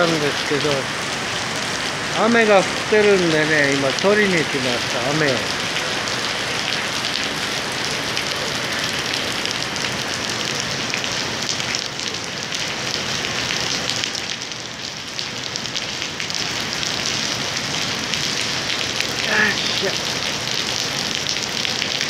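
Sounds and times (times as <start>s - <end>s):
heavy rain on tiled floor: 0.0s - 22.0s.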